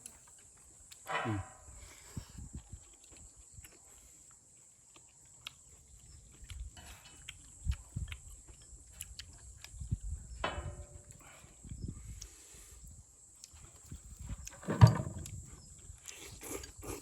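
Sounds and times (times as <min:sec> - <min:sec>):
chewing: 0:00.0 - 0:10.4, 0:11.0 - 0:14.6, 0:15.2 - 0:17.0.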